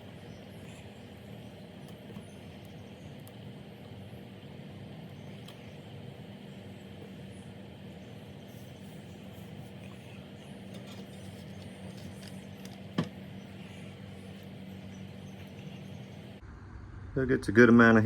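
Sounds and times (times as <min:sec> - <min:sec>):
soldering gun humming: 0:00.0 - 0:16.4.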